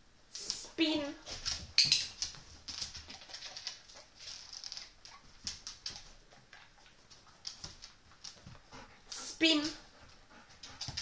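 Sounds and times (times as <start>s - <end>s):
dog claws ticking on floor: 1.2s - 11.0s.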